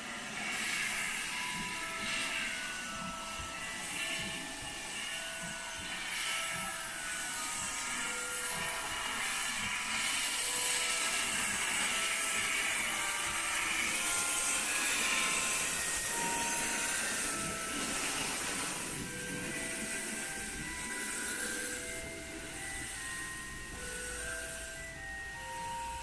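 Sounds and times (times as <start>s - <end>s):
steam hissing from locomotive: 0.0s - 26.0s.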